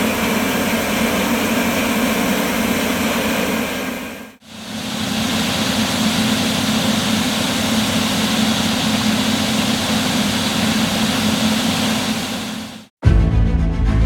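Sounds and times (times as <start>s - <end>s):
combine harvester engine hum: 0.0s - 12.8s
machine noise: 0.0s - 12.9s.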